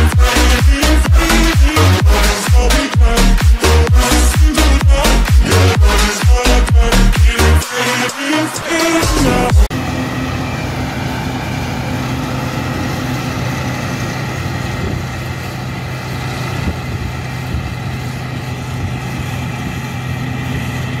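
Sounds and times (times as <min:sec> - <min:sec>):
combine harvester engine hum: 0:00.0 - 0:21.0
threshing machinery noise: 0:00.0 - 0:21.0.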